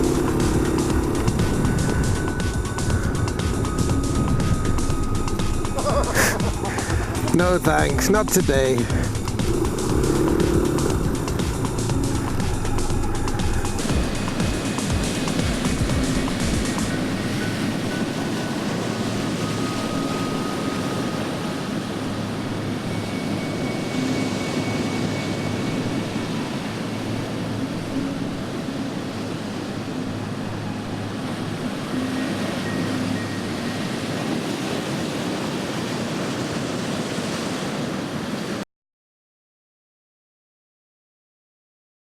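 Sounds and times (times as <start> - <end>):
low hum: 0.0 - 33.8
steady rushing noise: 0.0 - 37.1.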